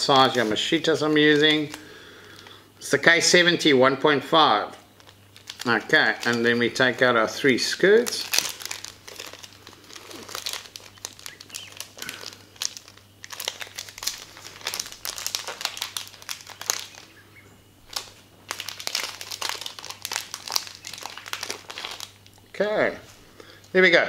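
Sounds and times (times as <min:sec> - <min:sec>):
plastic packet crinkling: 0:00.0 - 0:02.6, 0:04.8 - 0:22.6.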